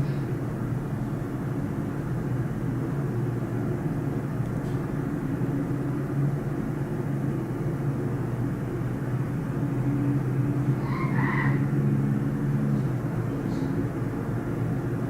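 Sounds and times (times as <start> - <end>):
distant engines rumbling: 0.0 - 15.0.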